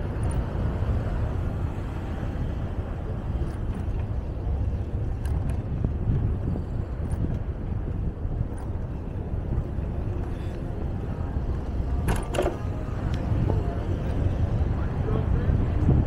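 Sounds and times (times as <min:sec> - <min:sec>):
passing traffic: 0:00.0 - 0:16.0
wind on microphone: 0:00.0 - 0:16.0.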